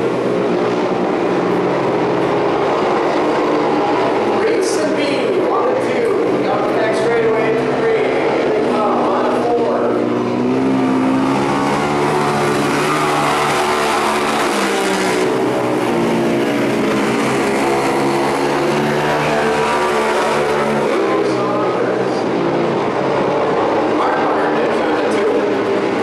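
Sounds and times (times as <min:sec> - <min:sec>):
racing motorcycle engines: 0:00.0 - 0:26.0.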